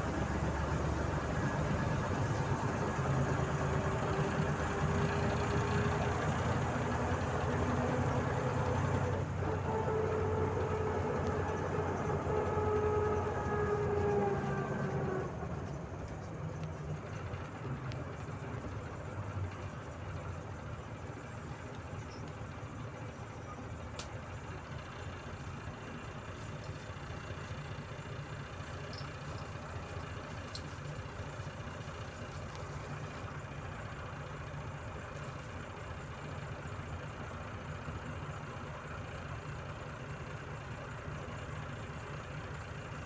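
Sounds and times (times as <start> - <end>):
bus engine and road noise: 0.0 - 43.0
drivetrain whine: 0.0 - 43.0.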